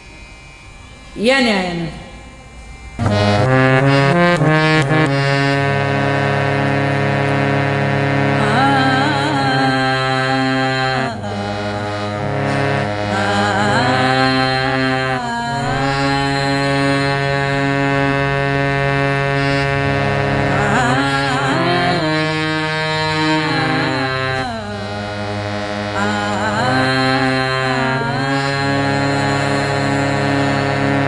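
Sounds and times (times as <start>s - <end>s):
devotional song with held chords: 0.0s - 31.0s.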